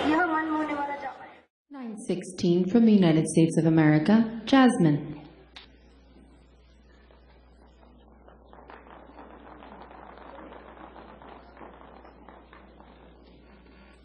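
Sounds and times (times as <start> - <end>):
electrical hum: 0.1 - 14.0.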